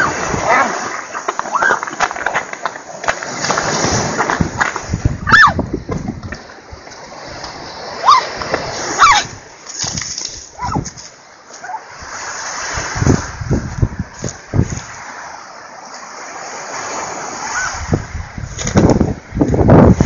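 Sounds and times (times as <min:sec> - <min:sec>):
waves splashing against shore: 0:00.0 - 0:20.0.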